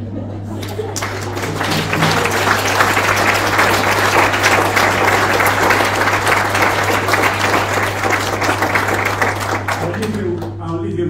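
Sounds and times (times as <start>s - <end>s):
audience applauding: 0.6s - 10.6s.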